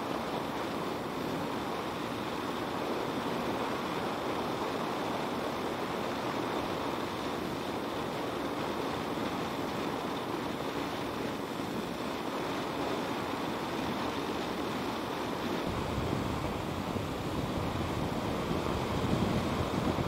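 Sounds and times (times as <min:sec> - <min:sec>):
wind rushing on microphone: 0:00.2 - 0:20.0.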